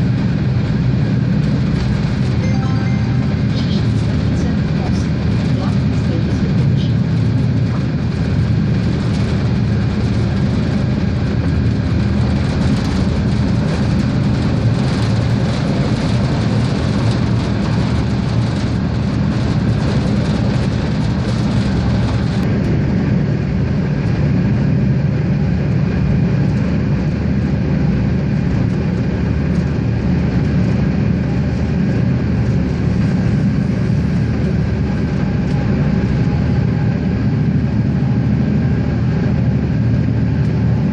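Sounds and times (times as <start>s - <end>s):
diesel railcar engine drone: 0.0s - 40.9s
rail running noise: 0.0s - 40.9s.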